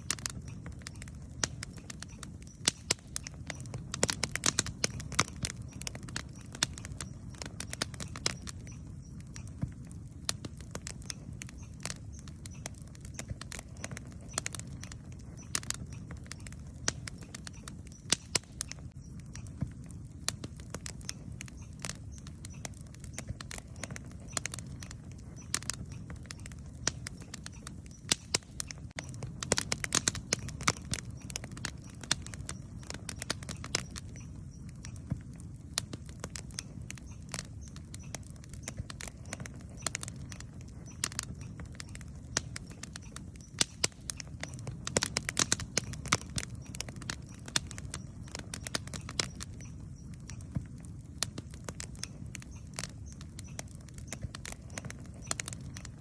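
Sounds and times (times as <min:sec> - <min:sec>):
campfire wood crackling and popping: 0:00.0 - 0:56.0
low fire rumble: 0:00.0 - 0:56.0.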